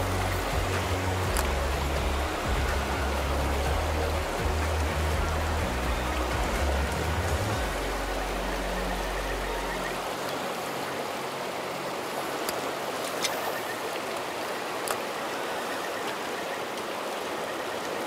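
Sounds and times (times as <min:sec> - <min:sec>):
stream flowing over rocks: 0:00.0 - 0:18.0.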